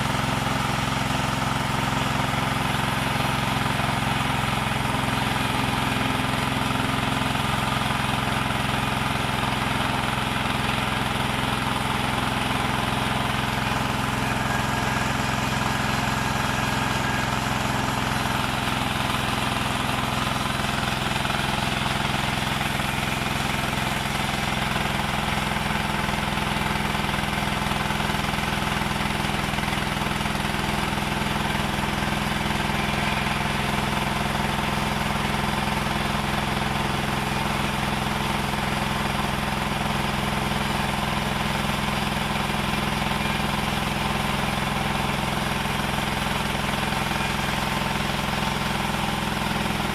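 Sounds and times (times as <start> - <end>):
wood-cutting saw running: 0.0 - 49.9.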